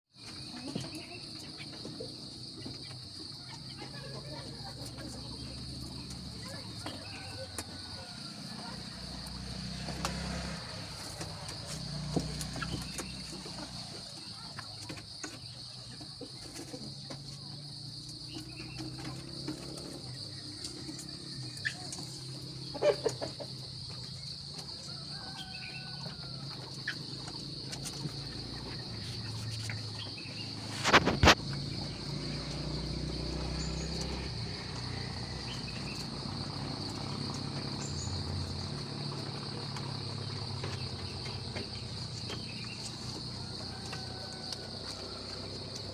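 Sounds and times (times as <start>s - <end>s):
chicken clucking: 0.2s - 45.9s
insects chirring: 0.2s - 45.9s.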